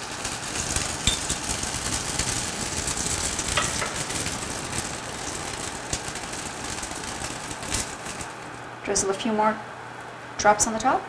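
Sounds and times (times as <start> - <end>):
small crackles: 0.0 - 9.4
flatbread sizzling on a griddle: 0.0 - 10.3.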